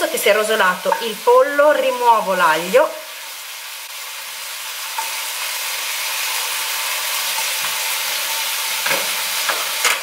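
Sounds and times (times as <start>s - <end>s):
chicken sizzling in pan: 0.0s - 10.0s.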